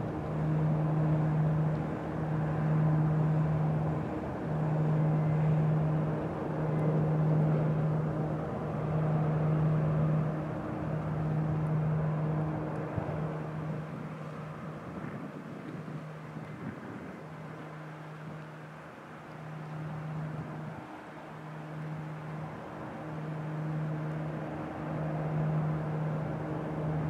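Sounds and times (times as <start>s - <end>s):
rushing water: 0.0s - 27.0s
ship engine droning: 0.0s - 27.0s
wind: 0.0s - 27.0s.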